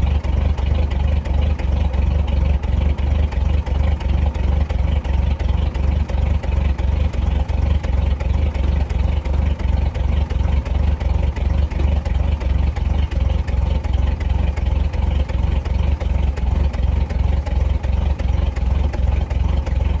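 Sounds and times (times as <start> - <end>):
petrol engine idling: 0.0 - 20.0.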